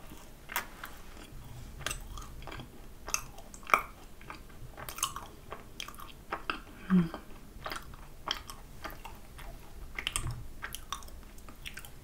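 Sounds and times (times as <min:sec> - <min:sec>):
chewing mouth clicks: 0:00.0 - 0:12.0.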